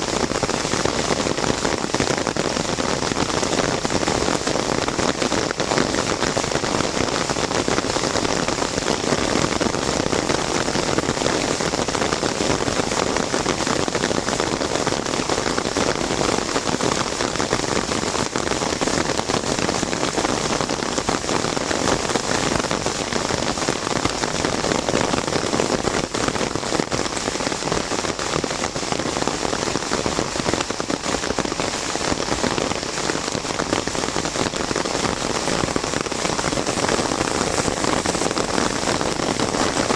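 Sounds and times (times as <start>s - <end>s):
heavy rain on umbrella: 0.0s - 39.9s.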